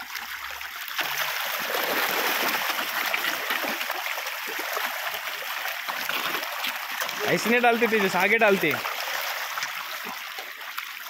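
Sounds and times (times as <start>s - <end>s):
fish splashing at water surface: 0.0s - 11.0s.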